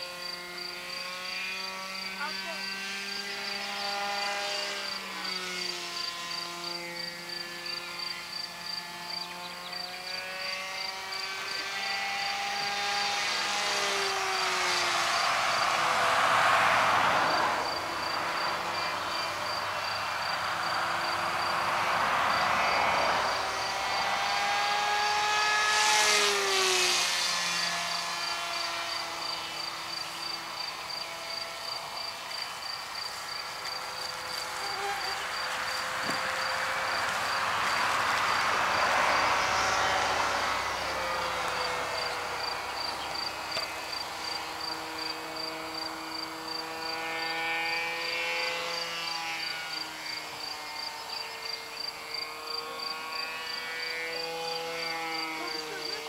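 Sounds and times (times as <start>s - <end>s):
model jet motor whining: 0.0s - 56.0s
crickets chirping: 0.1s - 25.7s, 26.9s - 56.0s.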